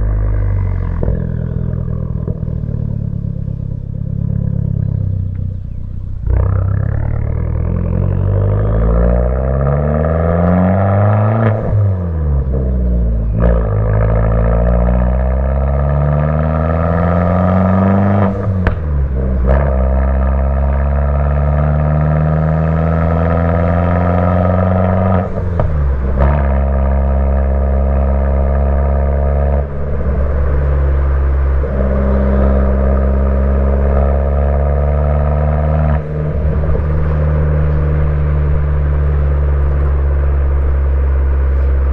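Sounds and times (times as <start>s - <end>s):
car engine accelerating through gears: 0.0s - 41.9s.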